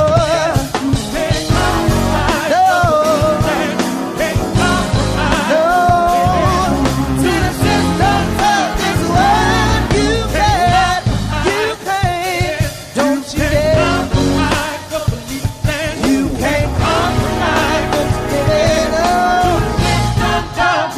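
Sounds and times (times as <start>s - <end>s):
bass and drums: 0.0s - 20.8s
rock song with sung vocal: 0.0s - 20.9s.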